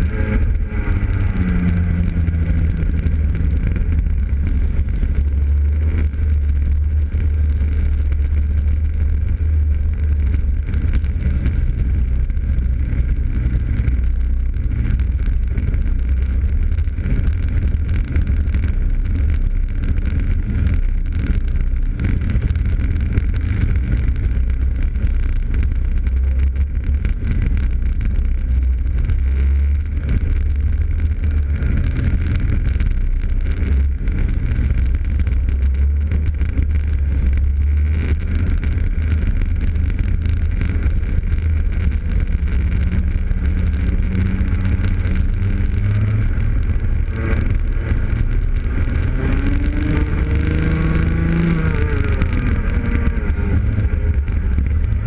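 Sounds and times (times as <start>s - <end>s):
kart engine running hard: 0.0s - 55.0s
other kart engines: 0.0s - 55.0s
wind on microphone: 0.0s - 55.0s.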